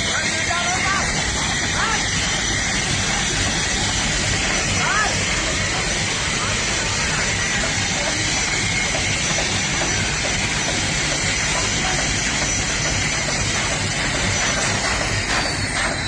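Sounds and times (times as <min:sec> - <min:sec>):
helicopter turbine and rotor: 0:00.0 - 0:16.0.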